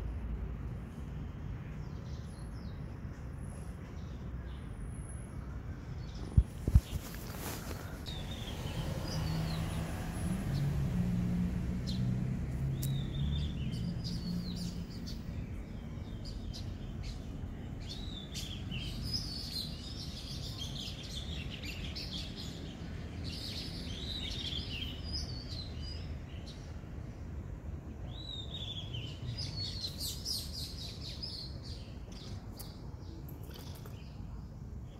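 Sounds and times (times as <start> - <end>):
small birds chirping: 1.0 - 34.9.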